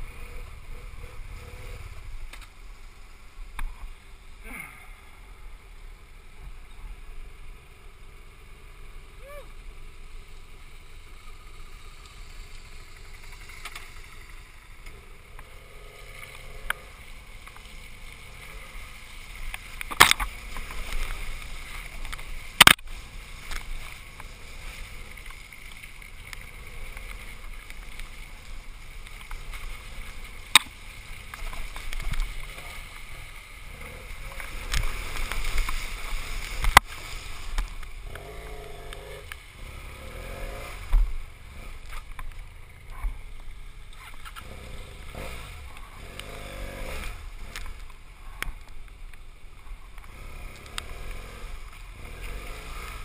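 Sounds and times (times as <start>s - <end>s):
muffled motorcycle engine: 0.0s - 53.0s.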